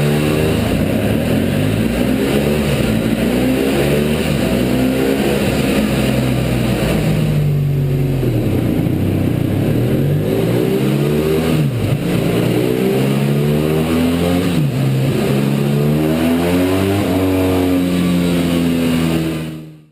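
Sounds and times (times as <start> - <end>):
motorcycle engine revving on dyno: 0.0 - 19.9.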